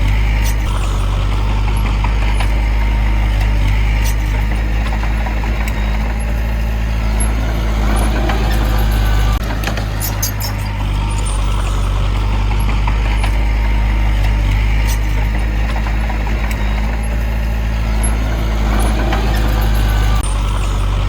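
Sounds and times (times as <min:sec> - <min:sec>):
diesel machinery engine hum: 0:00.0 - 0:21.0.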